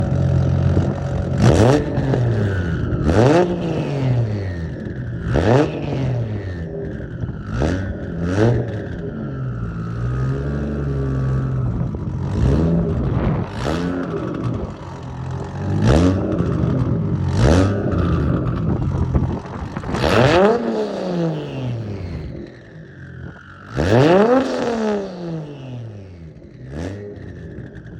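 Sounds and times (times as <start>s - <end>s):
car engine idling: 0.0s - 27.9s
engine revving: 0.0s - 27.9s.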